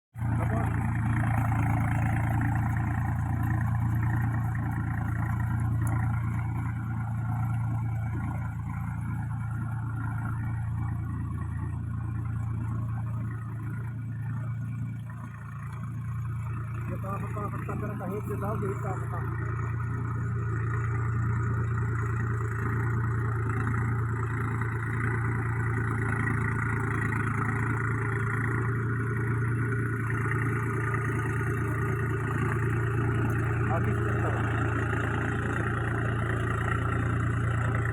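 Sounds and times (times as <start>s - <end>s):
tractor engine running: 0.1s - 37.9s.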